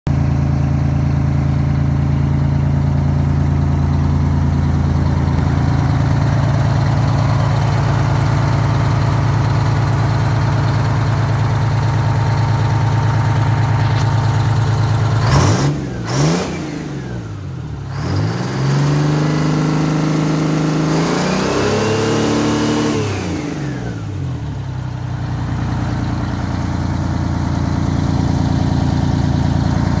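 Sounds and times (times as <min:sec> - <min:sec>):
fire truck engine idling and revving: 0:00.1 - 0:30.0.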